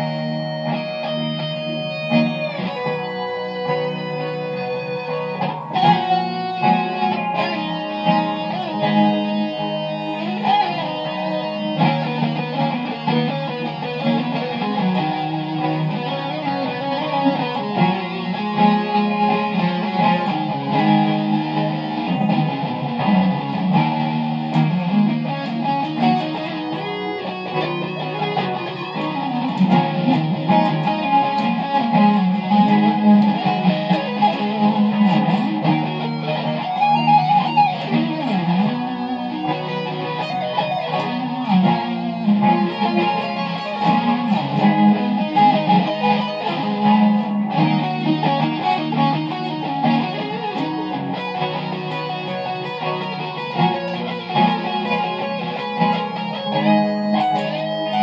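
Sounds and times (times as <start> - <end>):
electric guitar improvising: 0.0 - 58.0.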